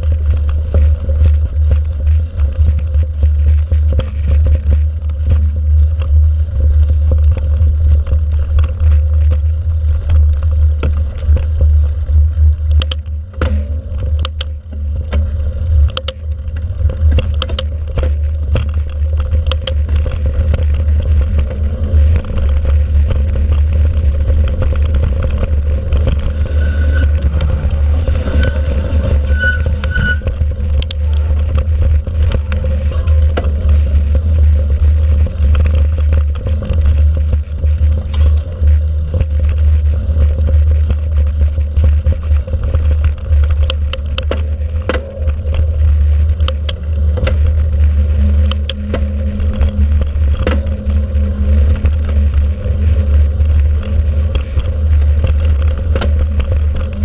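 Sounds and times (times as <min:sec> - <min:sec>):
bike rattling over bumps: 0:00.0 - 0:57.0
wind and tyre rumble: 0:00.0 - 0:57.0.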